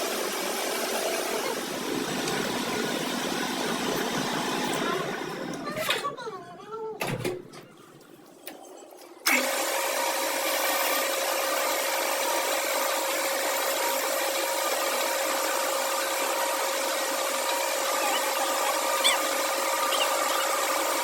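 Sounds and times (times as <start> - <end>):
workshop machine whirring: 0.0 - 6.2, 7.0 - 21.0.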